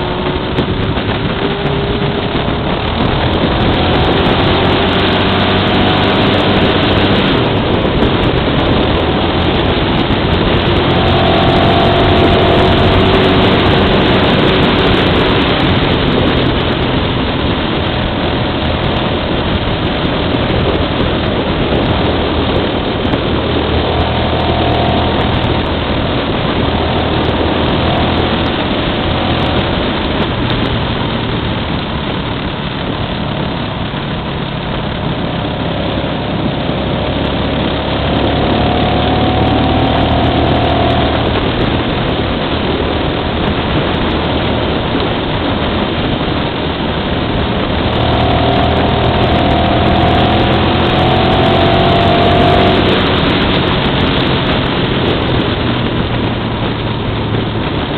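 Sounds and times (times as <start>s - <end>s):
motorcycle engine running: 0.0s - 57.9s
wind rush on microphone: 0.0s - 57.9s.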